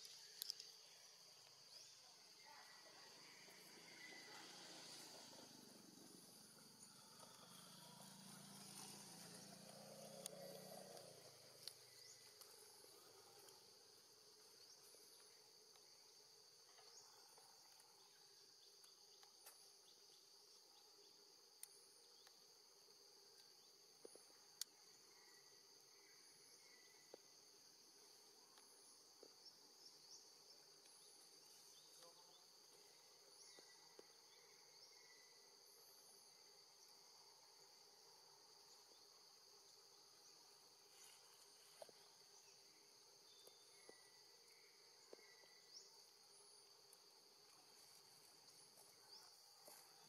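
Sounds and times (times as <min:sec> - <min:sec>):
insects buzzing trill: 0:00.0 - 0:50.0.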